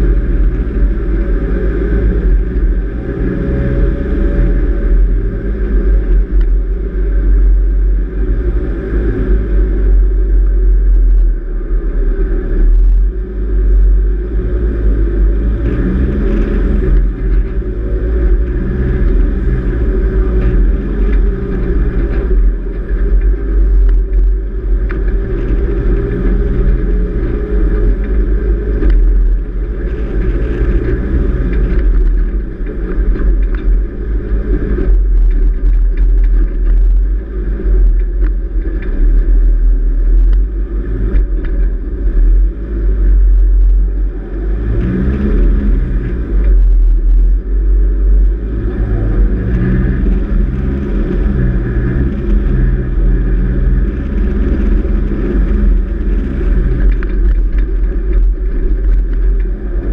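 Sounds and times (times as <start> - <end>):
vehicle engine pulling under load: 0.0 - 59.9.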